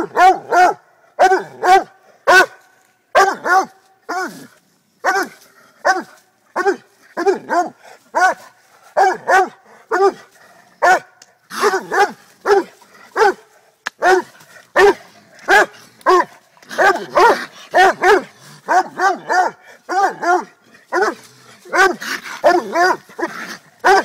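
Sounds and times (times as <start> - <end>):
dog barking: 0.0 - 4.4, 5.0 - 24.0.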